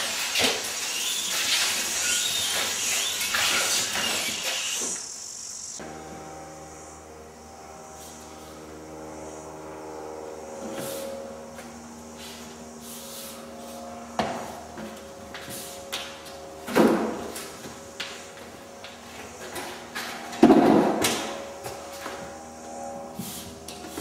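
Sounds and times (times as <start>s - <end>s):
steady low hum: 1.8s - 24.0s.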